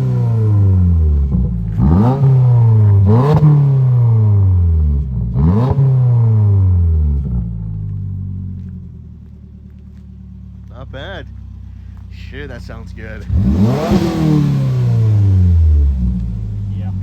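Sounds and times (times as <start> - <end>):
car engine idling: 0.0 - 5.6, 6.2 - 17.0
car engine revving: 0.0 - 8.7, 11.5 - 17.0.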